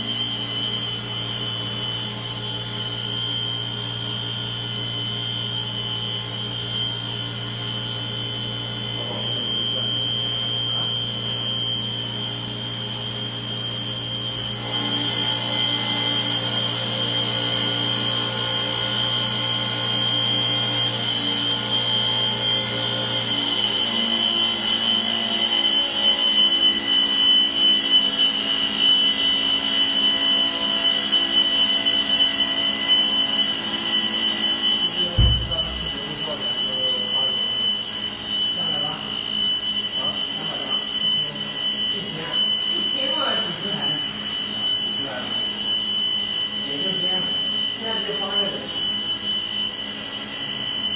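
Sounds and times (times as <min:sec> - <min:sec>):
circular saw motor running: 0:00.0 - 0:50.9.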